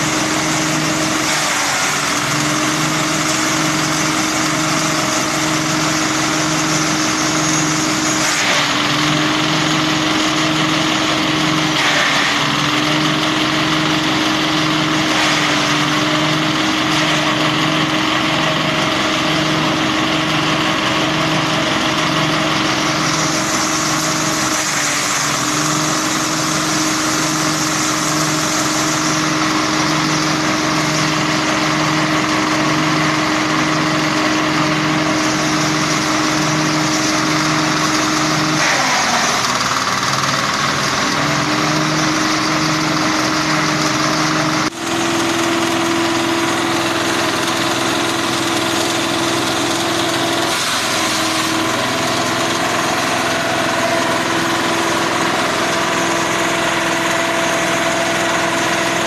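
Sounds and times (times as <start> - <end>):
diesel engine throbbing: 0.0 - 59.0.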